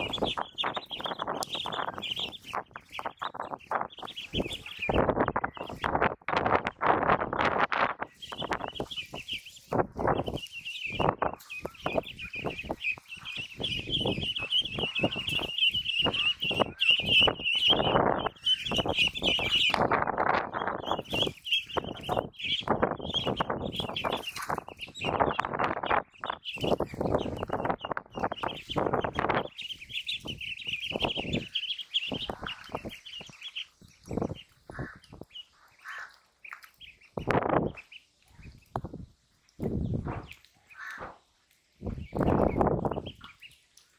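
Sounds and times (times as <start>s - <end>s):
ducklings peeping: 0.0s - 43.9s.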